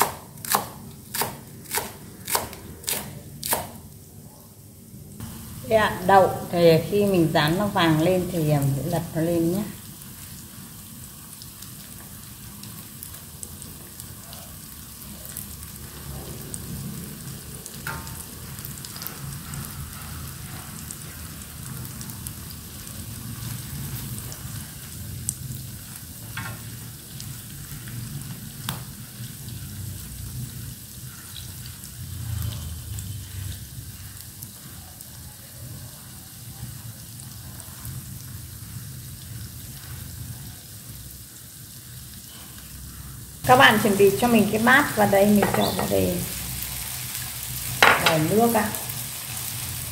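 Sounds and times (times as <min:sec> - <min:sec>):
tofu sizzling in oil: 0:00.0 - 0:49.9.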